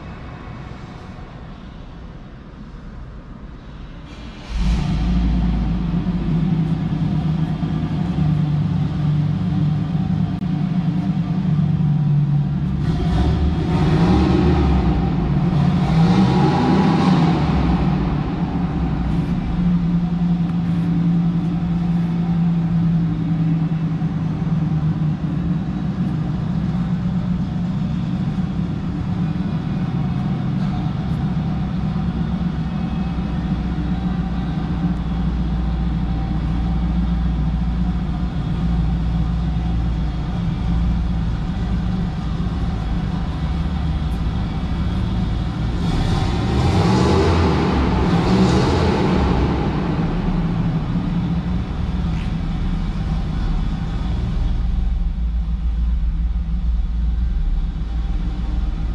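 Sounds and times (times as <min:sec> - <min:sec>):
vehicle engine rumbling: 0:00.0 - 0:58.9.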